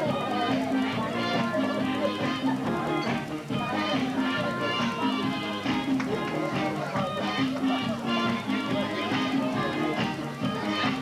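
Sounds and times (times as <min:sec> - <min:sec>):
music with several instruments: 0:00.0 - 0:11.0.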